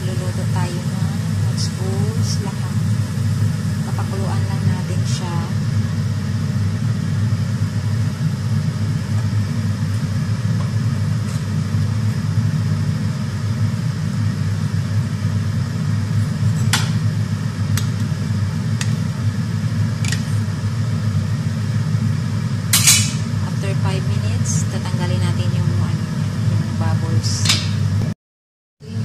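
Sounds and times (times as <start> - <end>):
pot boiling with low rumble: 0.0 - 28.1.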